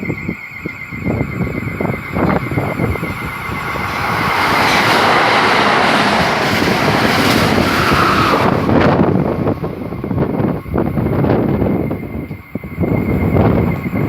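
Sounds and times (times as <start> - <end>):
train wheels rushing on rails: 1.0 - 14.0.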